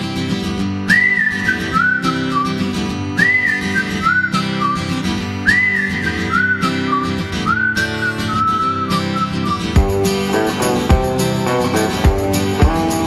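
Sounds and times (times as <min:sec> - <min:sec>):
strummed acoustic guitar: 0:00.0 - 0:13.0
whistled melody: 0:00.9 - 0:13.0.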